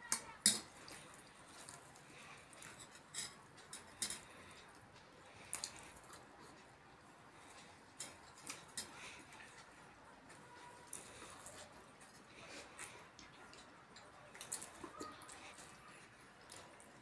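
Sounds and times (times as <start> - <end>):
people eating by hand: 0.0 - 17.0.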